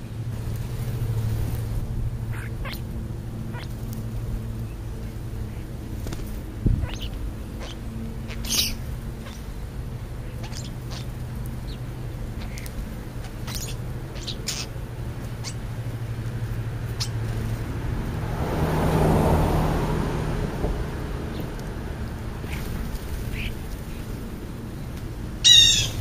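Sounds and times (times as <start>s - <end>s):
birds calling: 0.0s - 18.1s, 21.2s - 26.0s
low engine hum: 0.0s - 26.0s
vehicle passing: 0.0s - 26.0s.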